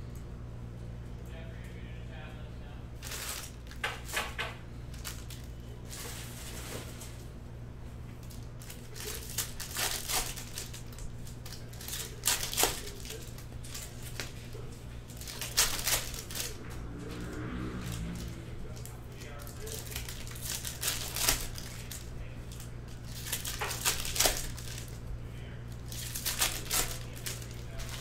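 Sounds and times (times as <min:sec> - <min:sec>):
cards rustling: 0:03.0 - 0:07.2, 0:08.1 - 0:28.0
foil wrappers crinkling and tearing: 0:03.0 - 0:07.3, 0:08.1 - 0:28.0.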